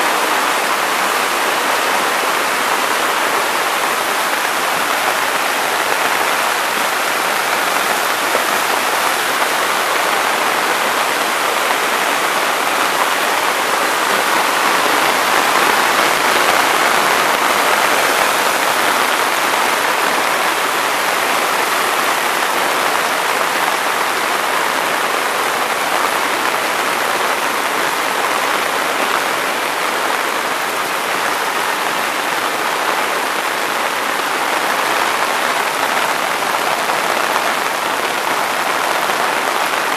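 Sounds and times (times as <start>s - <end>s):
floodwater rushing: 0.0s - 39.9s
rain falling: 0.0s - 39.9s.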